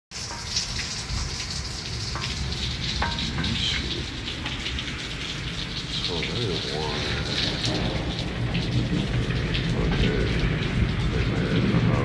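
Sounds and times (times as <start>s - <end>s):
heavy rain on a wet street: 0.1s - 12.0s
sharp drips: 0.1s - 12.0s.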